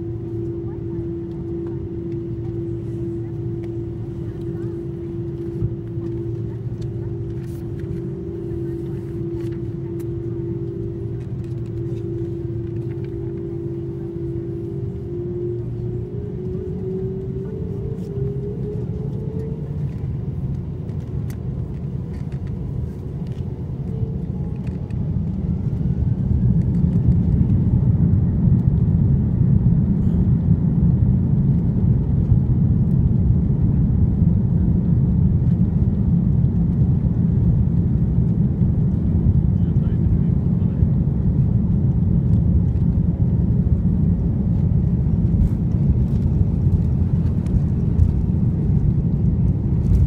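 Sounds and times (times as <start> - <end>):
low engine rumble: 0.0 - 50.0.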